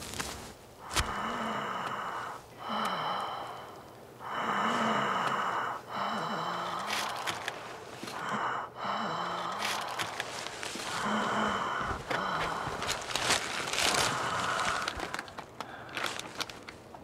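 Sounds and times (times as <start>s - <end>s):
person breathing heavily: 0.8s - 16.7s.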